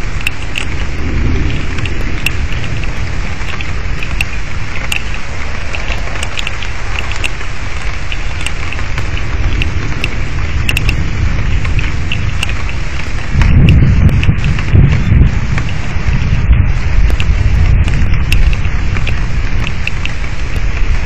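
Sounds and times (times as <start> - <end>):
constant low rumble: 0.0 - 21.0
sharp drop ticks: 0.0 - 21.0
steady rain: 0.0 - 21.0.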